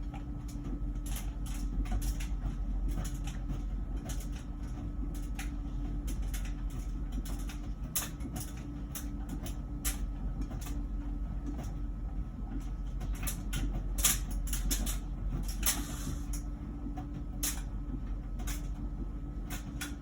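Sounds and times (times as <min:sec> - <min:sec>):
dryer humming: 0:00.0 - 0:20.0
tumbling drum clicks and knocks: 0:00.0 - 0:20.0.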